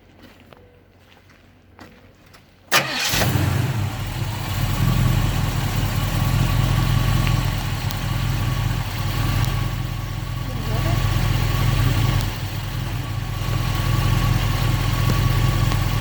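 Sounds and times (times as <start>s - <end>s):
car engine starting and idling: 2.7s - 16.0s.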